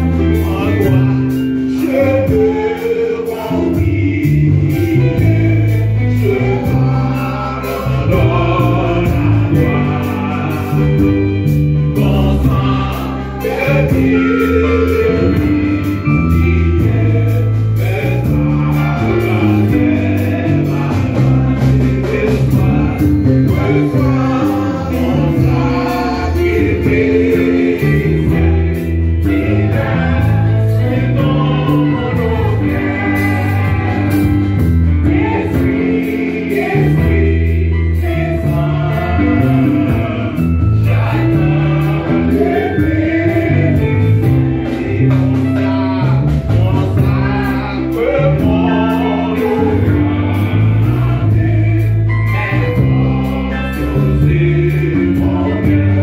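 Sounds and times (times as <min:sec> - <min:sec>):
electric bass guitar: 0:00.0 - 0:56.0
person singing into microphone: 0:00.0 - 0:56.0
voices singing along: 0:00.0 - 0:56.0.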